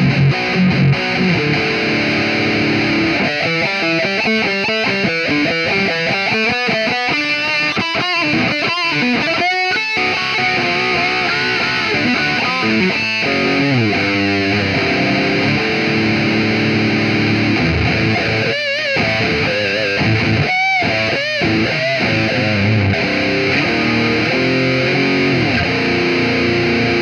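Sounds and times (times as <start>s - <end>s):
distorted electric guitar lead: 0.0s - 27.0s.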